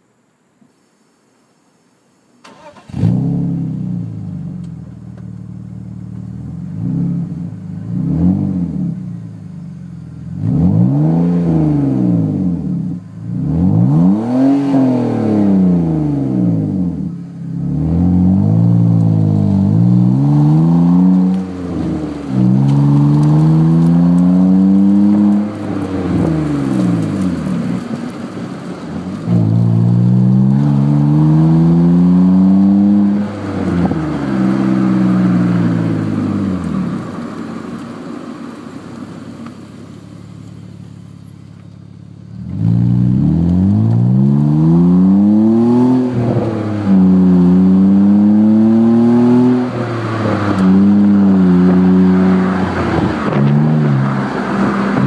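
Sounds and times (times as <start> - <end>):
car exhaust revving: 2.5 - 55.0.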